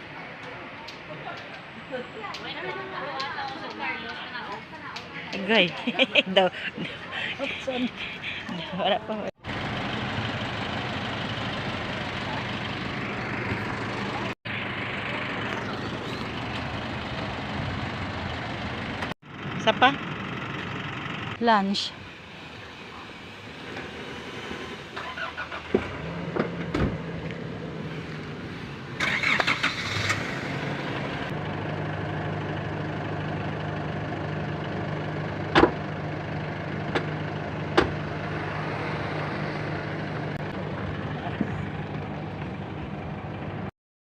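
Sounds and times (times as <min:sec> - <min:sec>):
engine running low hum: 0:01.6 - 0:21.4, 0:22.0 - 0:43.7.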